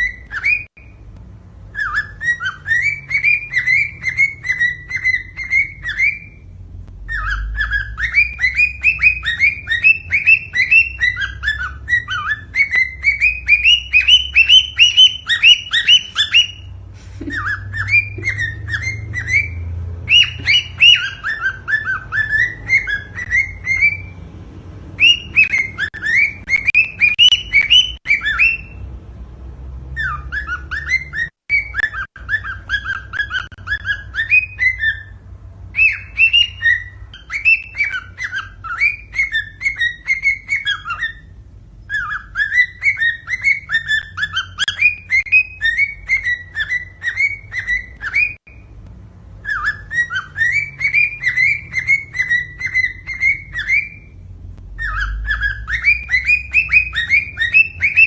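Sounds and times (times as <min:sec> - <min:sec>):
bird singing whistled phrases: 0:00.0 - 0:01.0, 0:01.7 - 0:24.2, 0:25.0 - 0:28.8, 0:30.0 - 0:48.7, 0:49.4 - 0:58.0.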